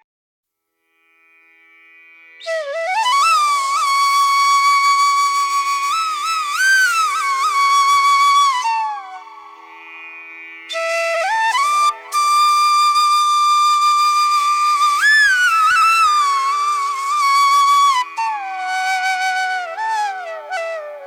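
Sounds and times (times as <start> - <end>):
flute melody: 2.4 - 9.8, 10.7 - 21.0.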